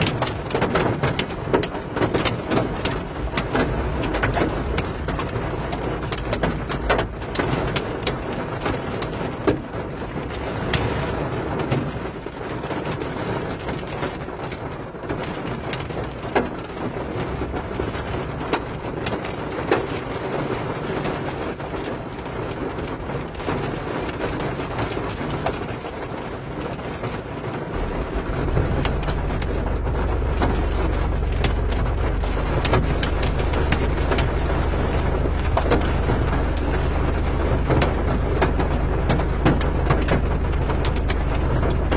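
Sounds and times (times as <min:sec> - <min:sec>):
low steady rumble: 0:00.0 - 0:21.0, 0:21.6 - 0:41.9
rain falling: 0:00.0 - 0:41.9
raindrops ticking on window glass: 0:00.0 - 0:41.9.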